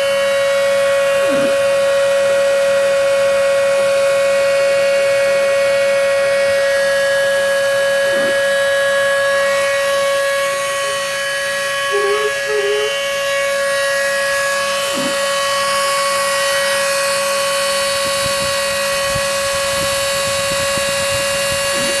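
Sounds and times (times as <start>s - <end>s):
machine whine: 0.0s - 22.0s.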